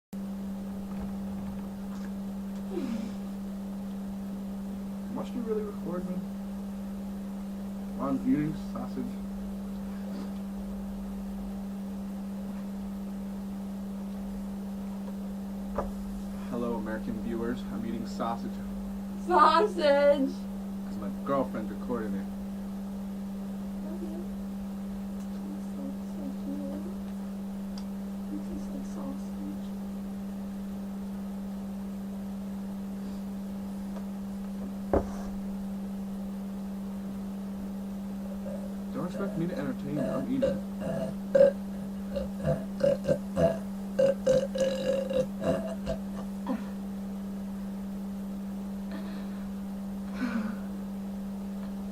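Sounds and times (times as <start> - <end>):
low electrical hum: 0.1 - 51.9.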